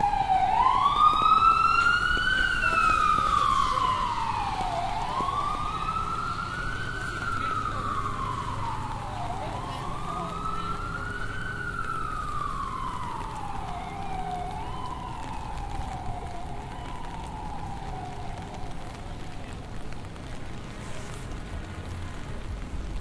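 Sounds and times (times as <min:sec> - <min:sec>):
siren wailing: 0:00.0 - 0:19.9
low traffic rumble: 0:00.0 - 0:23.0.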